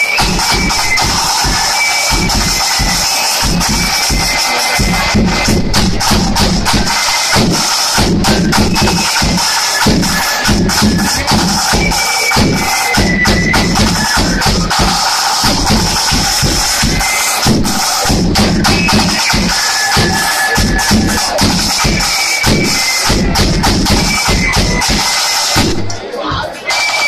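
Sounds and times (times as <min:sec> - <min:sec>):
bass drum beat: 0:00.0 - 0:26.6
flute melody: 0:00.0 - 0:27.0
rattling snare drums: 0:00.0 - 0:27.0.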